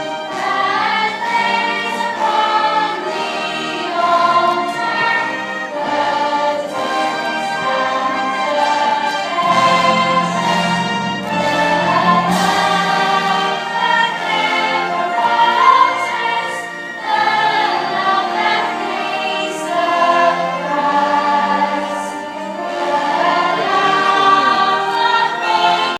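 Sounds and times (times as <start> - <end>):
band or orchestral accompaniment: 0.0 - 25.9
choir singing a hymn: 0.0 - 25.9.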